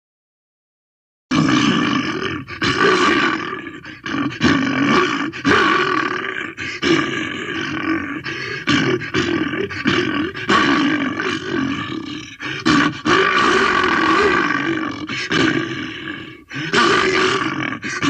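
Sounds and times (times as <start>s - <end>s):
bear roaring: 1.3s - 18.0s.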